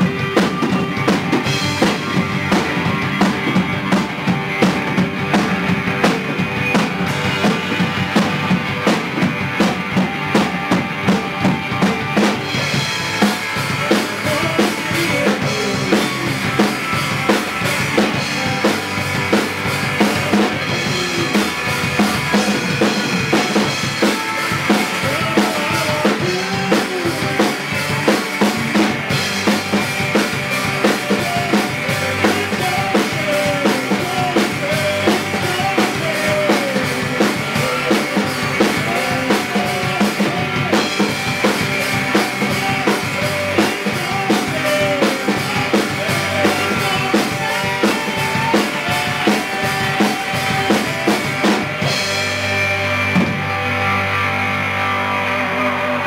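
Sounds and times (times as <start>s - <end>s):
drum kit beat: 0.0s - 54.7s
rock band instrumental: 0.0s - 56.0s.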